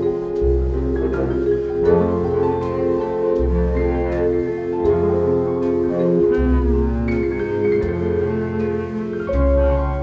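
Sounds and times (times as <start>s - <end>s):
deep bass: 0.0s - 10.0s
slow held notes: 0.0s - 10.0s.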